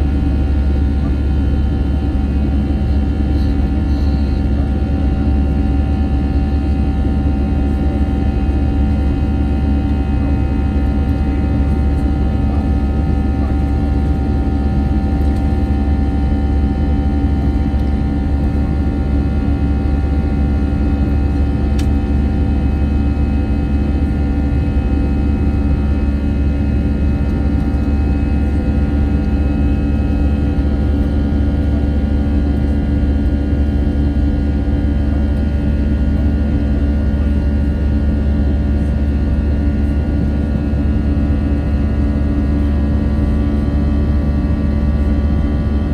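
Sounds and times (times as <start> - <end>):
airplane cabin engine drone: 0.0 - 45.9.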